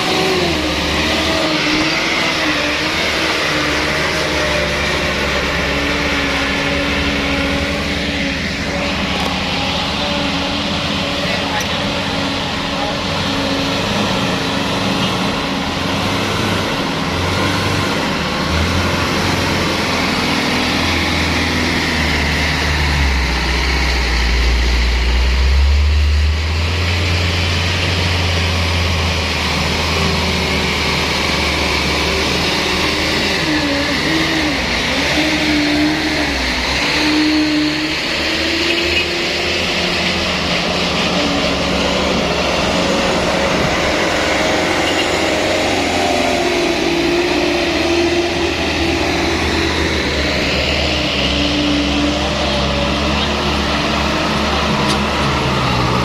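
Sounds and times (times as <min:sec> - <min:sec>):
truck engine running under load: 0:00.0 - 0:56.0.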